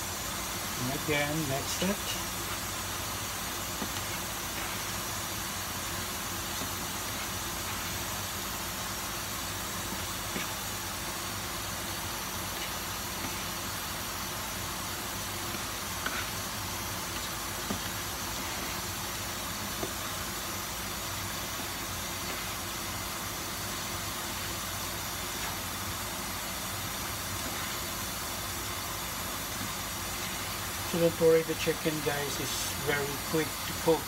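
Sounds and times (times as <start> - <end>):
food sizzling in a saucepan: 0.0 - 34.0.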